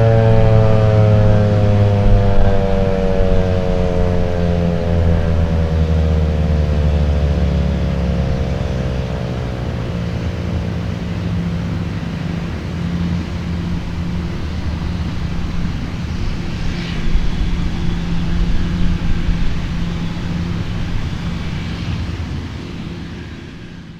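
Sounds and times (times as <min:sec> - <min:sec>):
warning siren winding down: 0:00.0 - 0:23.1
low rumble: 0:00.0 - 0:23.9.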